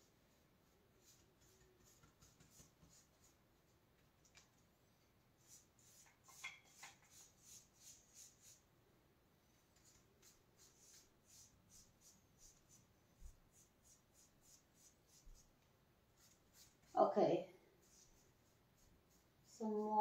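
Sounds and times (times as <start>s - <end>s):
paintbrush swishing on wall: 0.0s - 4.4s, 5.3s - 8.7s, 9.5s - 20.0s.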